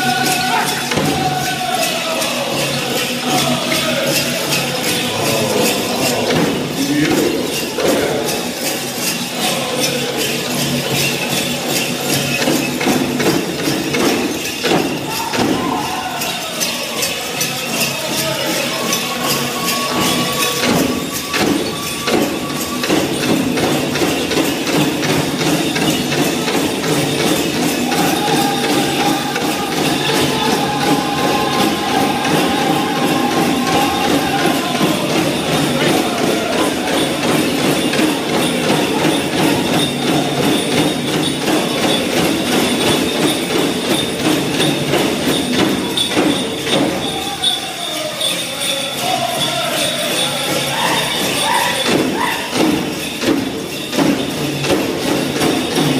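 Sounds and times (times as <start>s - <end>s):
big drum steady beat: 0.0s - 16.4s, 17.2s - 48.2s, 48.8s - 55.9s
group singing: 0.0s - 24.8s, 26.9s - 42.7s, 46.7s - 52.6s
ankle bells jangling: 0.0s - 55.9s.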